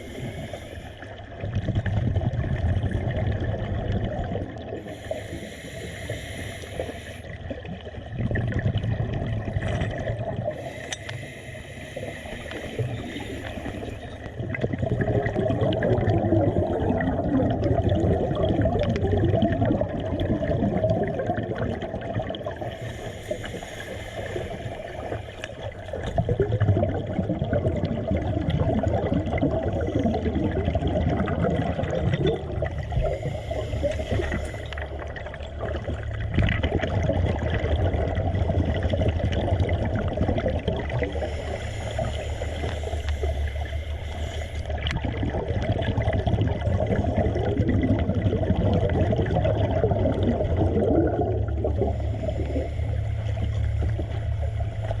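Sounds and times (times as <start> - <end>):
water gurgling and rushing: 0.0 - 11.0, 12.0 - 55.0
steady low hum: 0.0 - 55.0.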